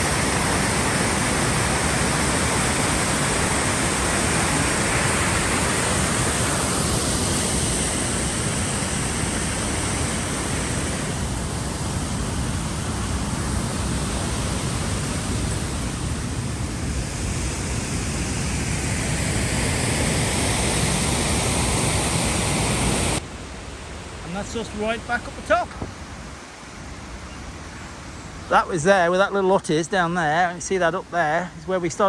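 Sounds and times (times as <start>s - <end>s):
waterfall rushing water: 0.0s - 29.1s.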